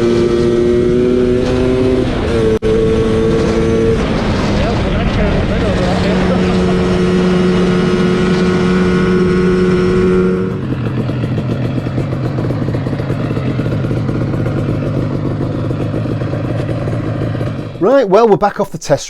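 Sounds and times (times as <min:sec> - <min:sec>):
two-stroke scooter engine running: 0:02.6 - 0:18.0.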